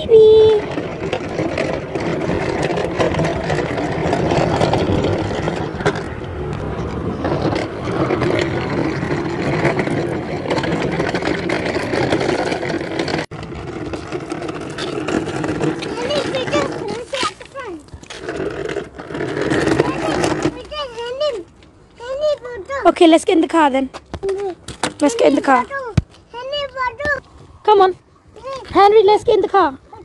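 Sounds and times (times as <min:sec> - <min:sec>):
vacuum wheels scraping on pavement: 0:00.0 - 0:23.8, 0:24.6 - 0:30.0.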